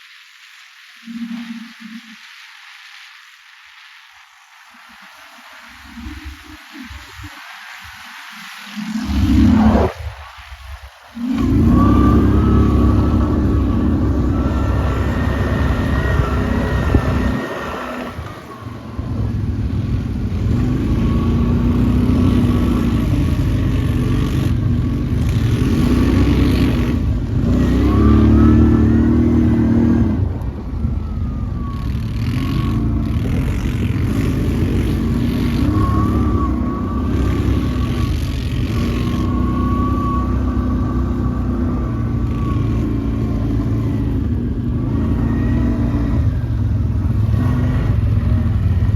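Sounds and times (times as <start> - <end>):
thin high whine: 0.0 - 48.9
atv engine revving: 8.8 - 10.2, 11.2 - 48.9.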